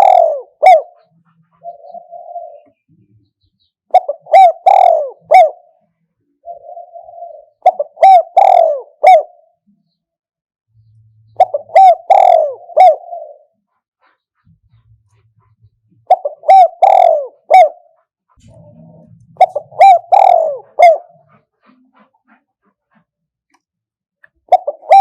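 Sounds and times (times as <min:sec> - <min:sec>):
dove cooing: 0:00.0 - 0:03.1, 0:03.9 - 0:09.7, 0:11.3 - 0:23.1, 0:24.3 - 0:25.0.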